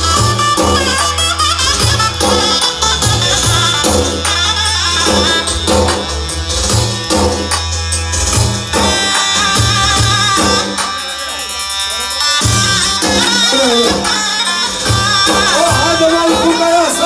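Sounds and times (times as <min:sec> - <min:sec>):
drums: 0:00.0 - 0:17.0
pulsing bass line: 0:00.0 - 0:17.0.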